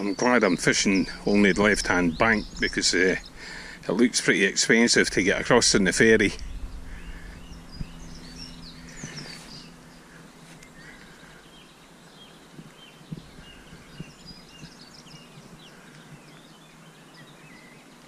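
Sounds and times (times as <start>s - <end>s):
faint low hum: 0.0s - 18.0s
faint outdoor hiss: 0.0s - 18.0s
small birds chirping: 0.0s - 18.0s.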